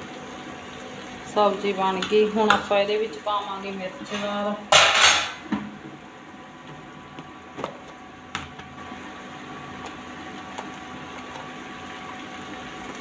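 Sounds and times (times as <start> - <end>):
induction cooktop humming: 0.0 - 13.0.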